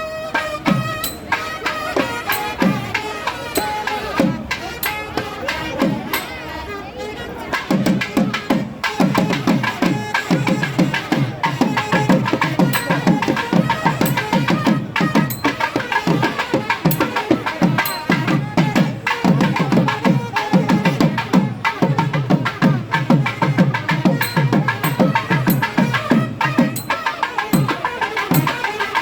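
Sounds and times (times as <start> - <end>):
procession music instruments: 0.0 - 7.0, 8.8 - 29.0
fast steady drumming: 0.7 - 6.5, 7.6 - 29.0.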